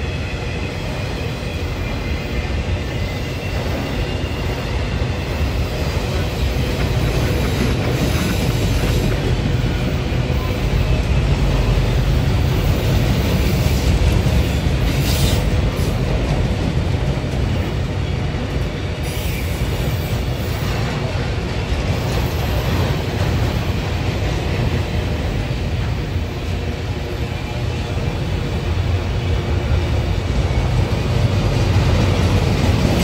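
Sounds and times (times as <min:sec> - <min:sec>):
freight train rolling past: 0:00.0 - 0:33.0
steel wheels on rails: 0:00.0 - 0:33.0.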